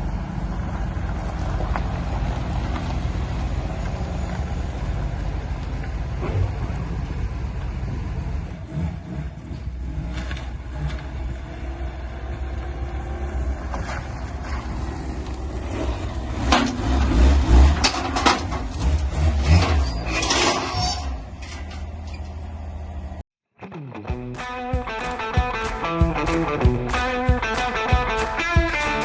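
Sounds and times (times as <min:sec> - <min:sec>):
motor vehicle engine rumbling: 0:00.0 - 0:23.2, 0:24.1 - 0:29.0.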